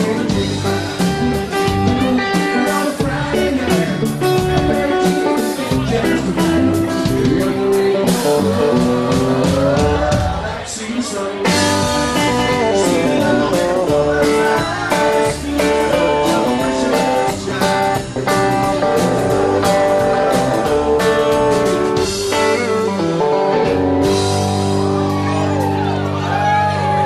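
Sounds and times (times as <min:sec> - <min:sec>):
acoustic guitar: 0:00.0 - 0:27.0
drum kit beat: 0:00.0 - 0:27.0
electric guitar: 0:00.0 - 0:27.0.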